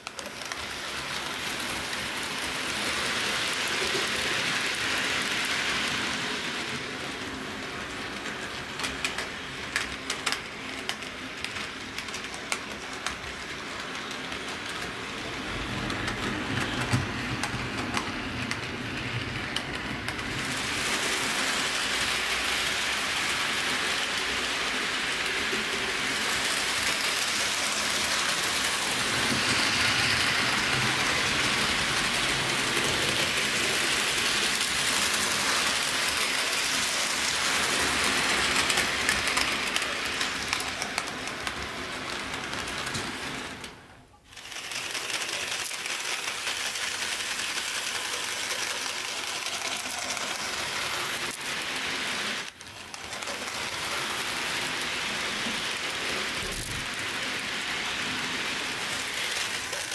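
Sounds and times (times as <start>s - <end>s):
model train whirring and rattling: 0.0s - 59.9s.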